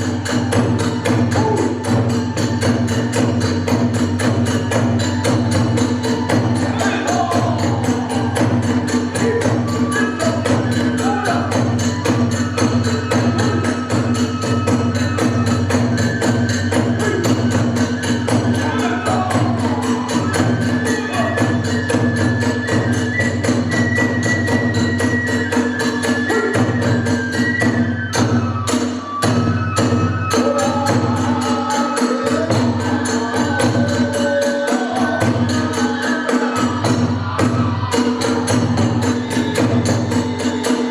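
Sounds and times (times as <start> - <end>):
bamboo flute melody: 0.0 - 40.9
drums beating: 0.0 - 40.9.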